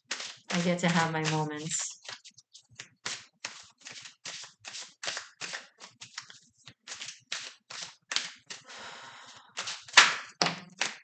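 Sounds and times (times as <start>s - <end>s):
cards being shuffled: 0.0s - 8.6s, 9.5s - 11.0s.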